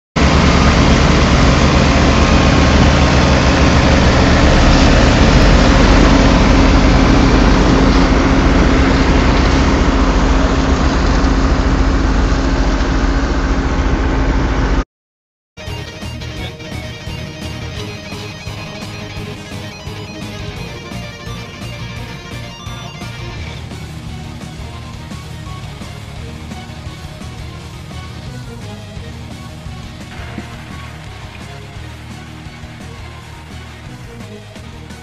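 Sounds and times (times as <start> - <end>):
diesel truck engine running: 0.2 - 14.8, 15.6 - 35.0.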